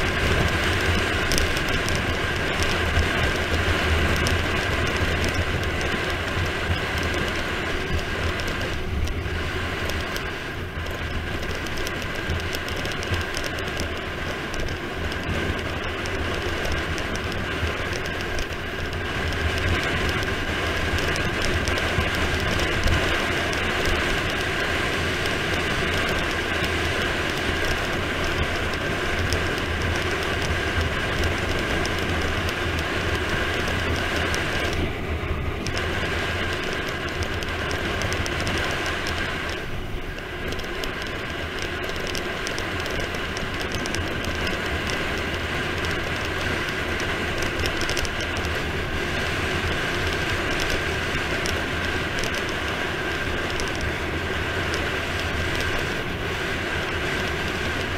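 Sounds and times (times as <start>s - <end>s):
bicycle tyres on asphalt: 0.0s - 57.9s.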